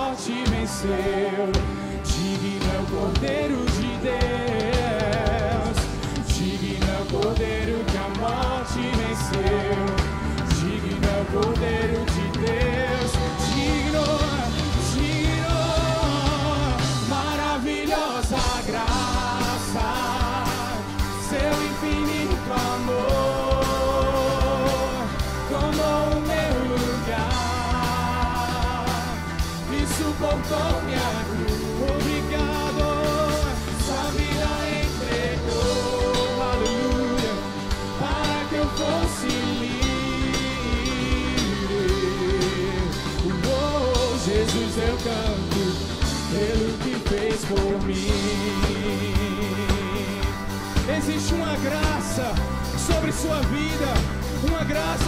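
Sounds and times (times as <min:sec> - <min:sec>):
drum kit: 0:00.0 - 0:55.0
electric guitar: 0:00.0 - 0:55.0
live band playing: 0:00.0 - 0:55.0
singers holding long notes: 0:00.0 - 0:55.0.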